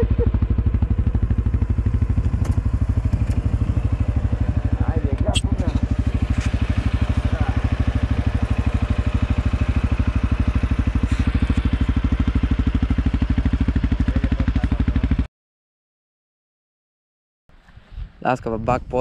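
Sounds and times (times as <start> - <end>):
engine running: 0.0 - 15.3.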